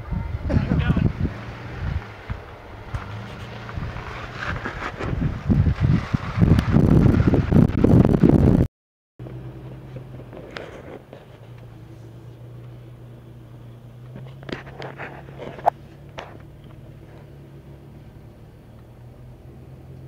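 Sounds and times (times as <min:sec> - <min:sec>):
vehicle engine running at low speed: 0:00.0 - 0:20.0.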